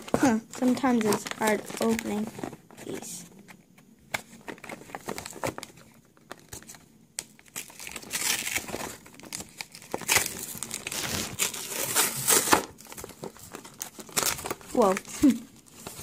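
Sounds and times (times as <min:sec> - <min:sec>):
blister pack crinkling and tearing: 0:00.0 - 0:03.1, 0:04.1 - 0:16.0.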